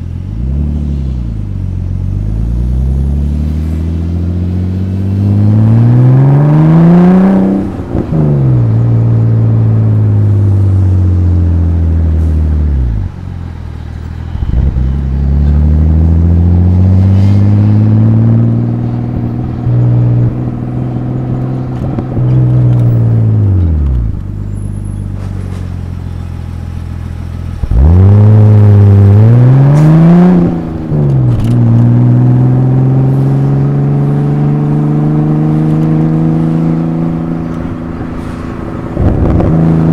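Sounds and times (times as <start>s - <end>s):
car exhaust revving through gears: 0.0s - 13.2s, 14.3s - 24.4s, 26.8s - 39.9s.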